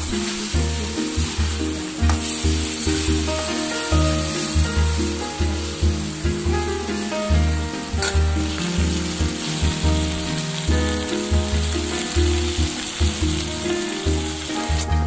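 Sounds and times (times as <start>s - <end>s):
background music: 0.0s - 15.0s
food sizzling in hot oil: 0.0s - 15.0s.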